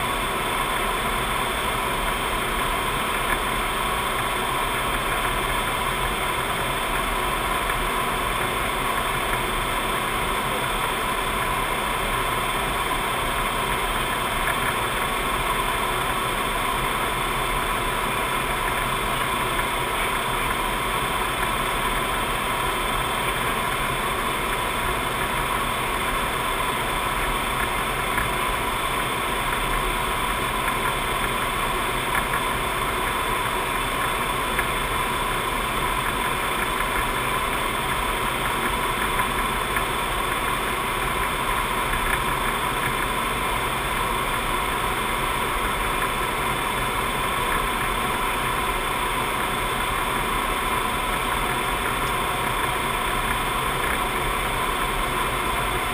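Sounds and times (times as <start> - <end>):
aircraft cockpit drone: 0.0 - 55.9.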